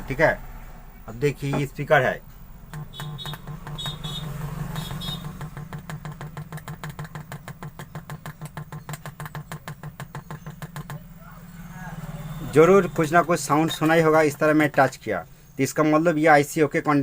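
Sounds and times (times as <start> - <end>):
speaker hum stuttering: 1.1 - 15.2.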